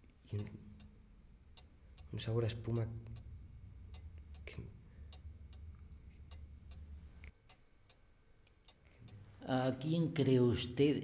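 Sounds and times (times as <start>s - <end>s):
low hum: 0.0s - 9.5s
clock ticking: 0.3s - 9.3s.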